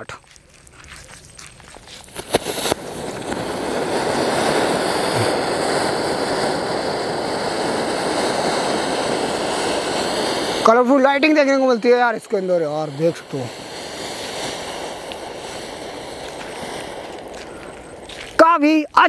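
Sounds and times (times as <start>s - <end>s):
fountain firework hissing: 1.2s - 19.0s
firework sharp cracks: 2.0s - 19.0s.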